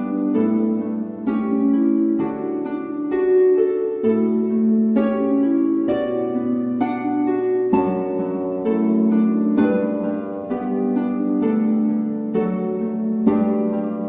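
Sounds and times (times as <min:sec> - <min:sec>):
slow plucked background music: 0:00.0 - 0:14.0.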